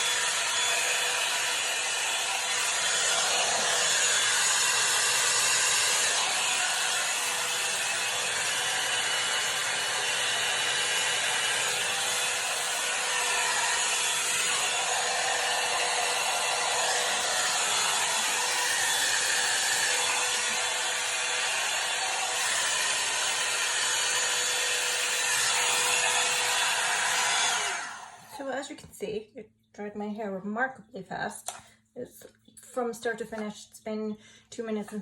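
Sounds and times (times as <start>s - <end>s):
hot air brush blowing: 0.0s - 28.3s.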